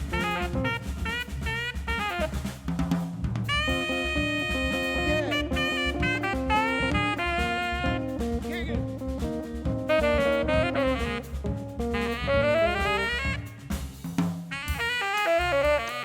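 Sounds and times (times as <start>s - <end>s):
horn playing melodic line: 0.0s - 2.6s, 3.4s - 16.0s
bass: 0.0s - 16.0s
drum kit: 0.0s - 16.0s
live jazz band playing: 0.0s - 16.0s.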